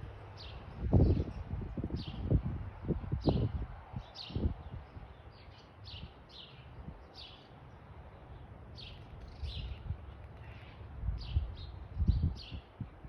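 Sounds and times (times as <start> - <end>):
small birds chirping: 0.0 - 2.5, 3.2 - 13.0.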